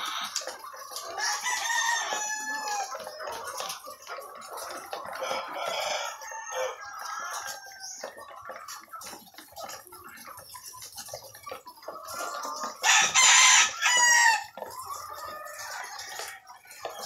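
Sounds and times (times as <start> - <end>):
hens clucking and calling: 0.0 - 17.0.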